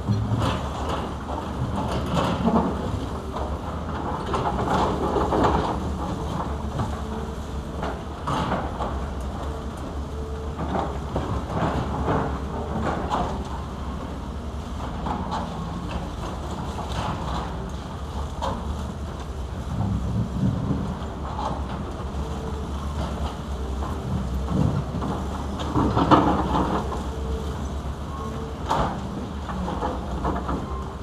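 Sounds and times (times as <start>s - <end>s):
excavator diesel engines humming: 0.0s - 31.0s.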